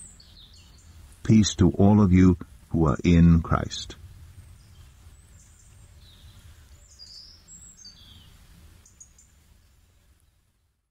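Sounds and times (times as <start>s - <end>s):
faint birds chirping: 0.0s - 10.9s.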